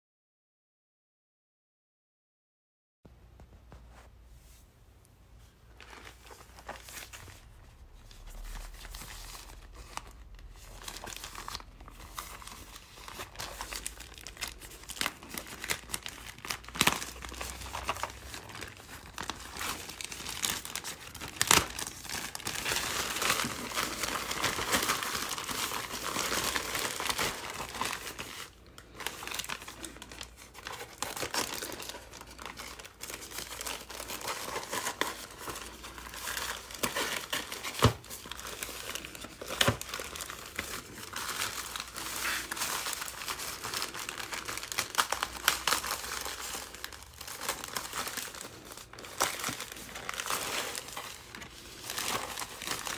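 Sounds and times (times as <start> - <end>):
plastic bag crinkling and tearing: 5.8 - 52.9.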